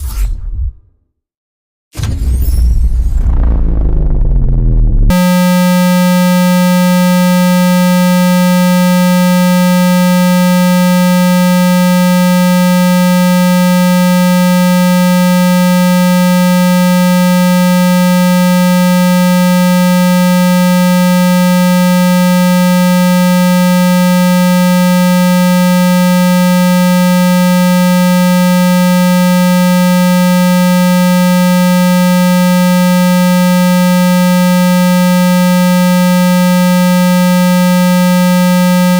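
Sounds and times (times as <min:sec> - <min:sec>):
buzzy synthesized tone: 0:05.1 - 0:38.9.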